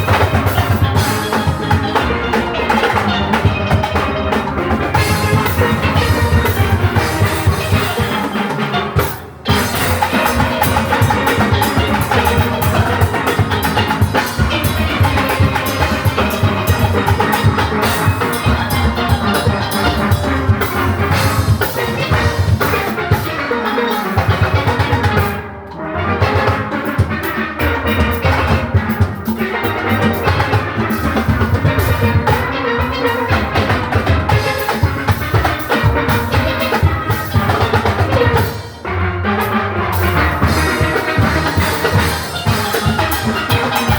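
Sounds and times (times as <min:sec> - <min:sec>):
drum kit and percussion: 0:00.0 - 0:43.9
massed steelpans: 0:00.0 - 0:43.9.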